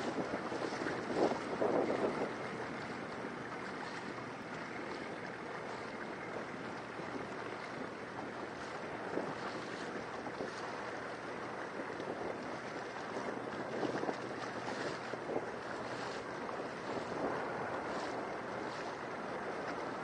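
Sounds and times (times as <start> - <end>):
water splashing against boat hull: 0.0 - 20.0
wind buffeting microphone: 0.0 - 20.0.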